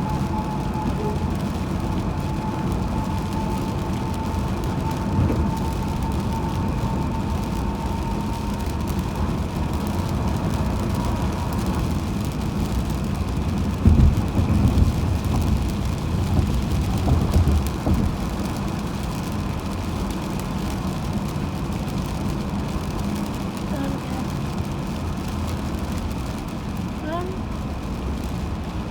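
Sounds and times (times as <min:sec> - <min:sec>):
car road and tyre rumble: 0:00.0 - 0:28.9.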